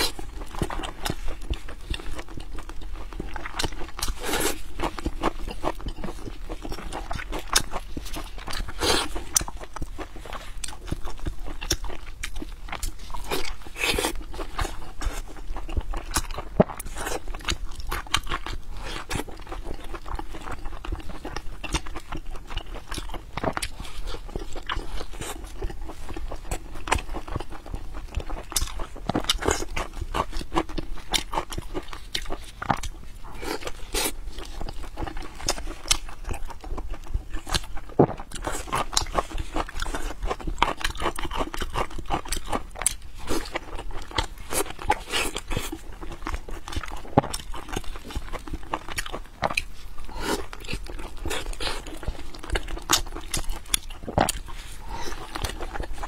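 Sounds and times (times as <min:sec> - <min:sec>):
chewing and wet mouth smacks: 0:00.0 - 0:56.0.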